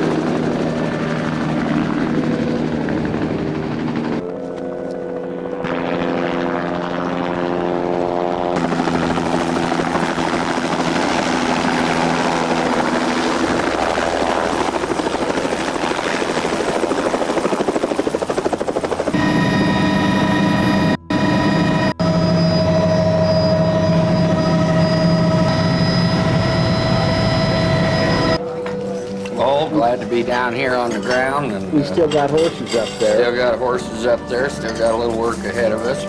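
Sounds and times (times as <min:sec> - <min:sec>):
helicopter rotor and engine: 0:00.0 - 0:36.0.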